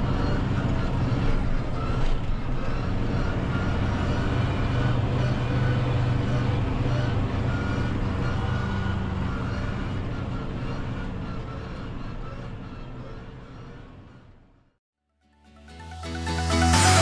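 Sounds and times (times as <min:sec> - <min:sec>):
faint whining tone: 0:00.0 - 0:14.7
tractor diesel engine running: 0:00.0 - 0:14.8.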